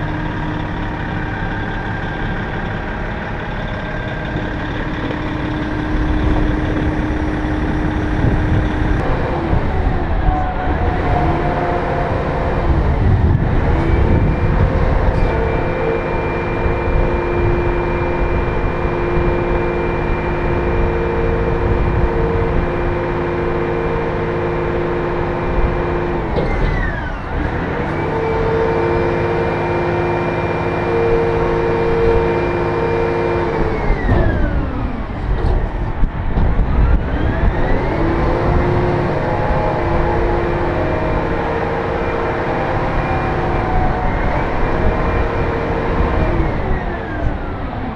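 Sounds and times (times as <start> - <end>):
dump truck diesel engine revving: 0.0 - 47.9.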